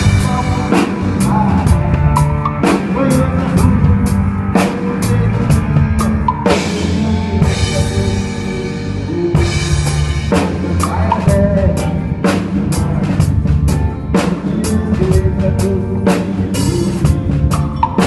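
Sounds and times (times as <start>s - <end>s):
bass and pitched instruments: 0.0s - 18.0s
drum kit beat: 0.0s - 18.0s.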